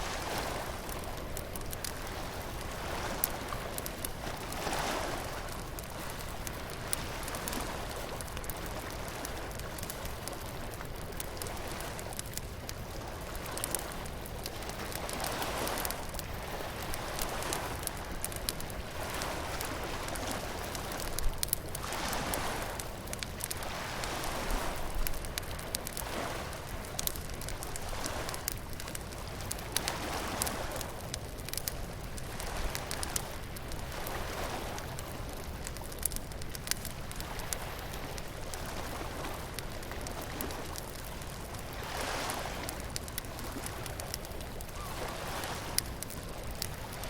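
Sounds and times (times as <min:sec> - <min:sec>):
surf washing in and out: 0:00.0 - 0:31.5, 0:37.0 - 0:47.0
bonfire crackling and popping: 0:00.0 - 0:47.0.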